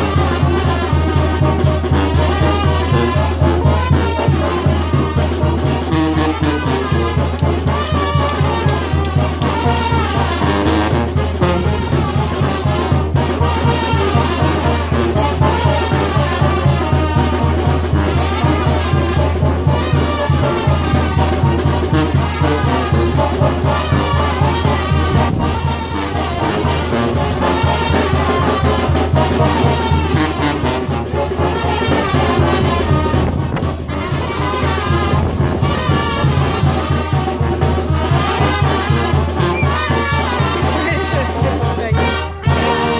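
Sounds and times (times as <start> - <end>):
brass band music: 0.0 - 42.9.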